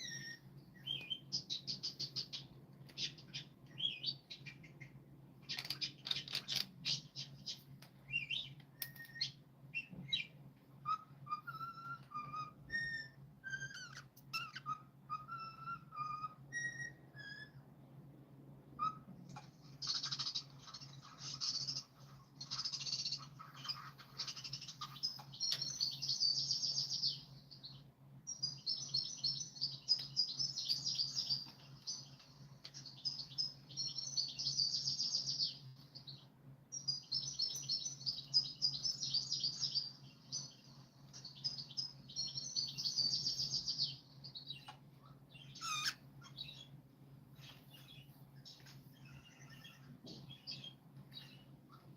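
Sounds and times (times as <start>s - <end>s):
faint low hum: 0.0s - 51.9s
songbird chirping song: 0.0s - 51.9s.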